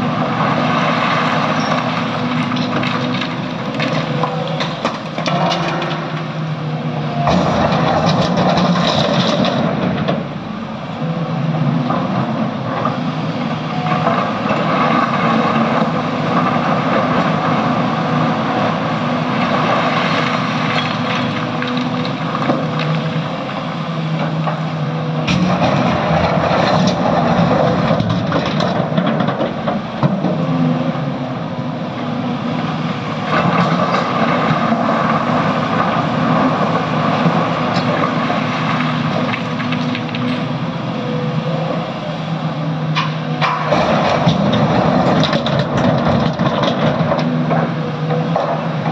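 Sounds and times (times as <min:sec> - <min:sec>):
excavator diesel engine working: 0:00.0 - 0:48.9.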